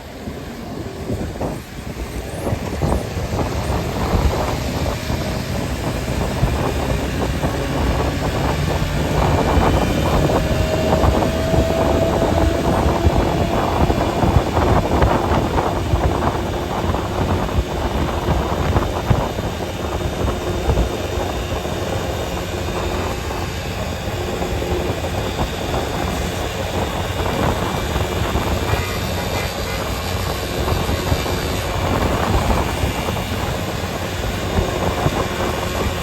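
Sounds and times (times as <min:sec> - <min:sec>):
engine and tyres rumbling: 0:00.0 - 0:36.0
wind noise: 0:00.0 - 0:36.0.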